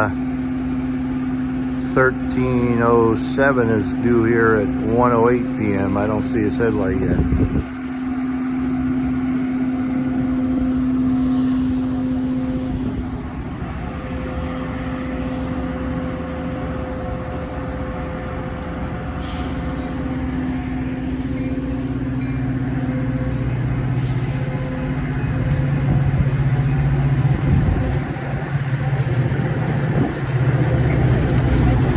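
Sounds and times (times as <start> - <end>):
diesel locomotive humming: 0.0 - 31.9.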